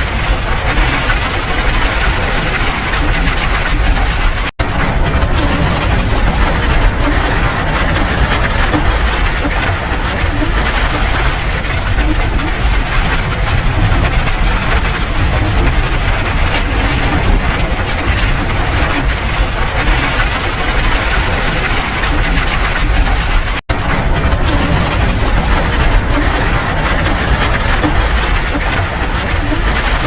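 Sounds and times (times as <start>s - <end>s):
steady rain: 0.0s - 30.0s
low rumble: 0.2s - 30.0s.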